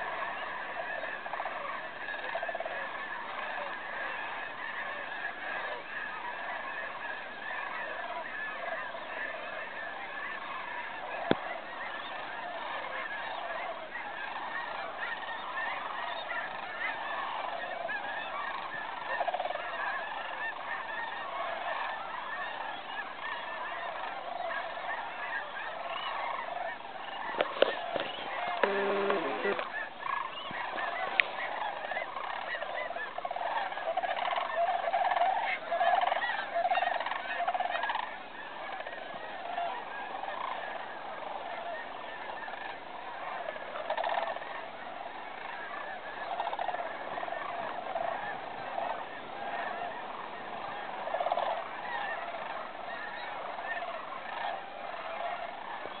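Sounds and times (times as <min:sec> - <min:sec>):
flock of cranes calling: 0:00.0 - 0:56.0.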